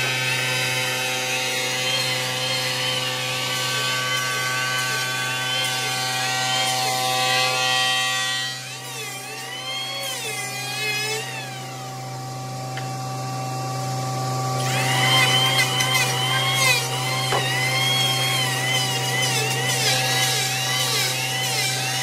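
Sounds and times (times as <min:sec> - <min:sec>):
electric hand planer whine: 0:00.0 - 0:22.0.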